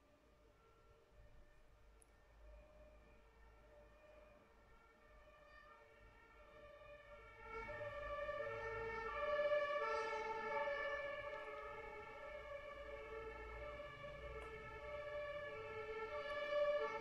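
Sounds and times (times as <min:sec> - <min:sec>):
ambulance two-tone siren: 0:00.0 - 0:17.0.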